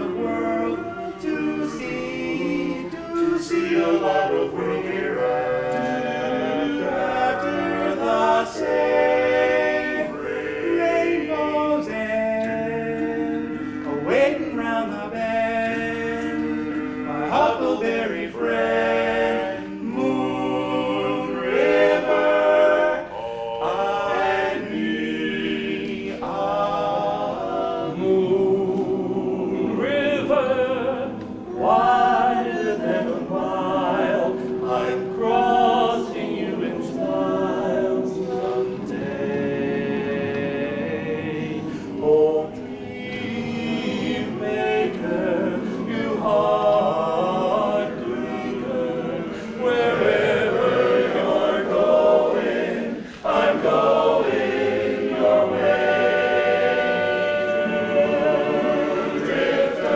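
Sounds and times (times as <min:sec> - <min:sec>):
men's chorus singing a cappella: 0:00.0 - 0:59.9.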